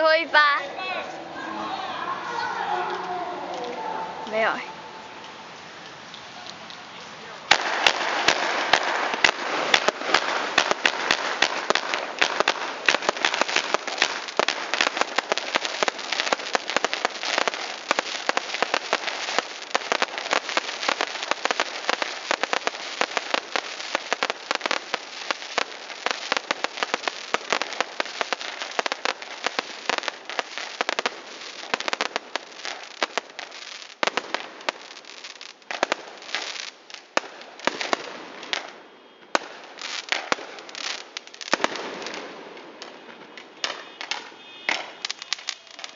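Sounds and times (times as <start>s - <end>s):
fireworks crackling: 0.0s - 45.9s.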